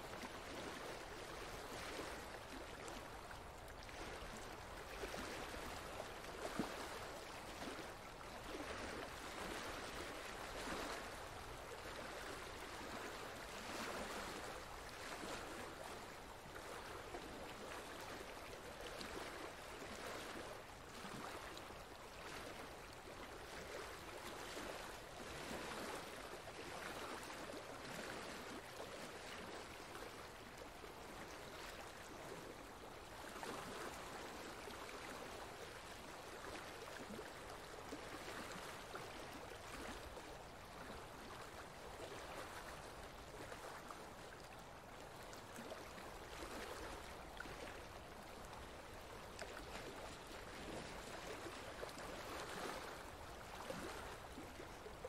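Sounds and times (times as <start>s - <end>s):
faint flowing water: 0.0s - 55.0s.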